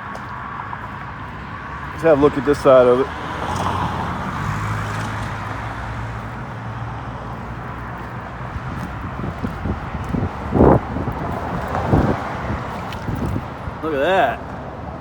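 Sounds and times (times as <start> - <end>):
low engine hum: 0.0 - 15.0
road noise: 0.0 - 15.0.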